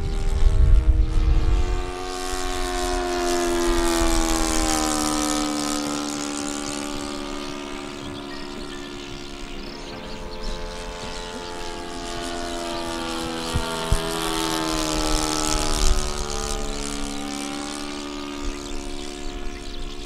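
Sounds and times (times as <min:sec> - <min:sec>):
model plane engine droning: 0:00.0 - 0:20.0.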